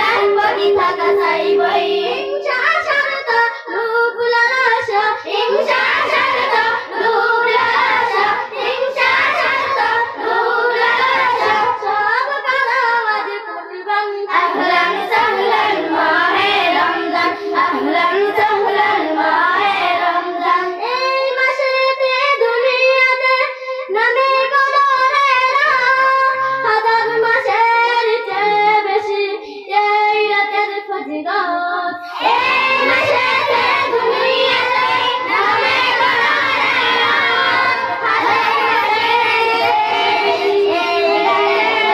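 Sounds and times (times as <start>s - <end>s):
girls singing devotional song: 0.0s - 41.9s.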